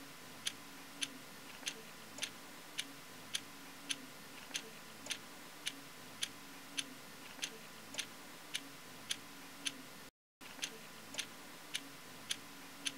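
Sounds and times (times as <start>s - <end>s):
faint steady hum: 0.0s - 12.9s.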